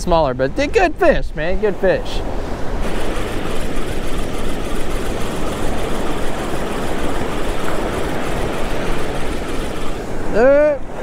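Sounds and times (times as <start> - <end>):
wind buffeting microphone: 0.0 - 11.0
surf breaking on beach: 1.4 - 11.0.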